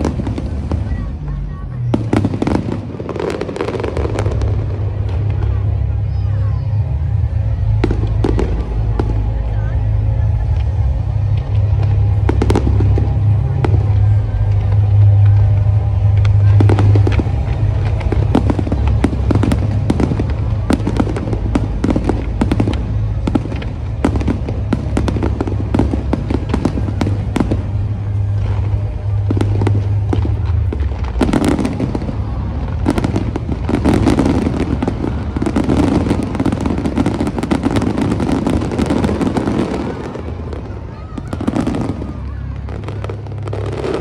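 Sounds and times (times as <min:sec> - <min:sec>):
low hum: 0:00.0 - 0:41.2
fireworks bangs and crackles: 0:00.0 - 0:44.0.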